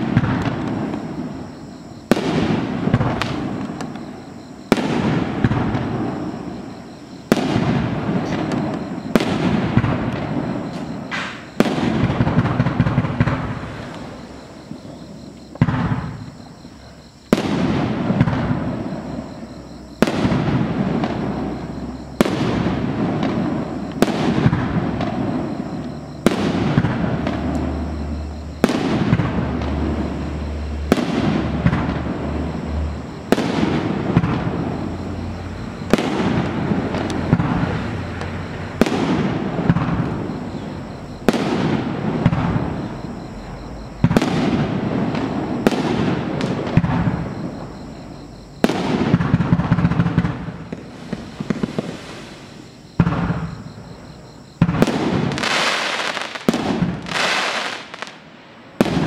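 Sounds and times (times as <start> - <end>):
fireworks crackling: 0.0 - 47.8, 48.6 - 59.0
fireworks bangs: 0.0 - 59.0.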